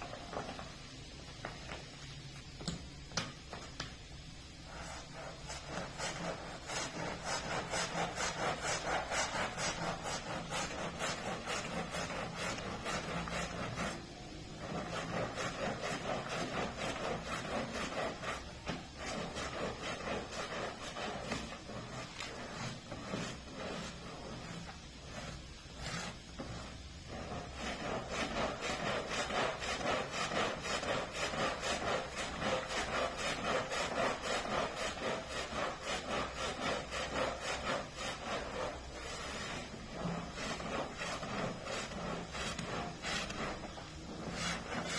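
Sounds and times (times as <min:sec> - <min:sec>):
stiff brush scrubbing carpet: 0:04.6 - 0:44.9.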